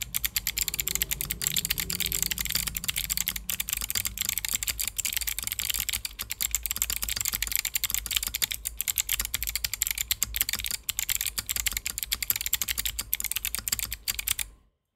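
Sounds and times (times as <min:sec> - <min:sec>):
fast mechanical keyboard typing: 0:00.0 - 0:14.5.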